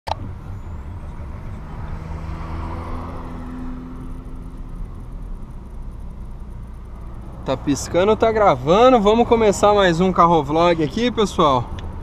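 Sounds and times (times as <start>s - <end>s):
road and tyre rumble: 0.0s - 12.0s.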